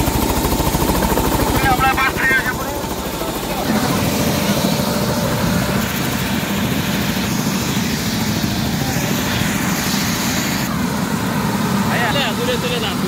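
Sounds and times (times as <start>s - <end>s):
helicopter turbine whine and rotor: 0.0s - 13.0s.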